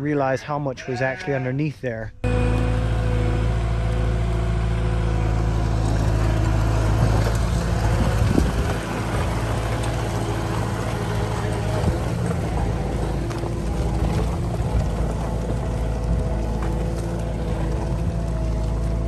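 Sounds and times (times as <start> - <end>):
diesel engine running: 2.1 - 19.0.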